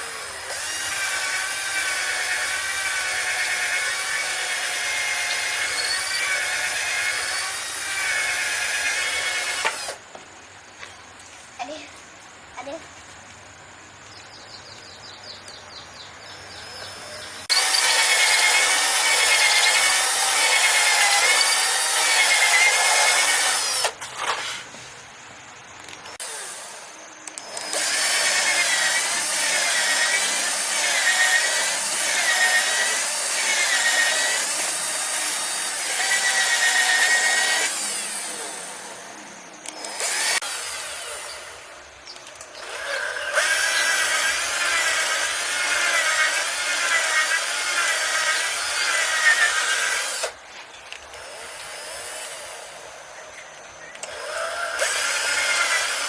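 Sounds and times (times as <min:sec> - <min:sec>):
saw cutting bamboo: 0:00.0 - 0:10.0, 0:16.5 - 0:24.8, 0:26.1 - 0:53.3, 0:54.0 - 0:56.0.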